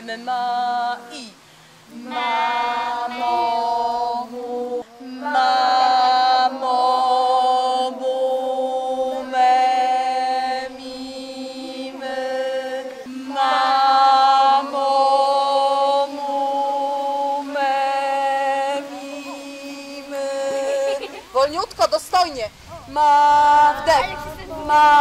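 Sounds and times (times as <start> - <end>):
woman and children singing: 0.0 - 21.6, 22.8 - 25.0.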